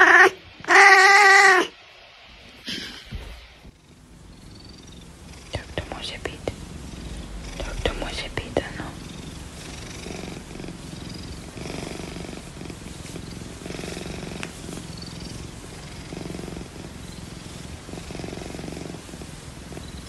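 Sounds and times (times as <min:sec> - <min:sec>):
cat purring: 0:02.4 - 0:20.0.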